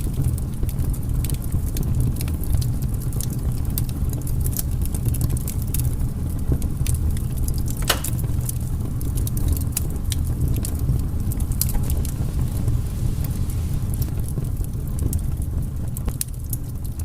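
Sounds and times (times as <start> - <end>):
firewood crackling and popping: 0.0 - 17.0
low rumble of flame: 0.0 - 17.0.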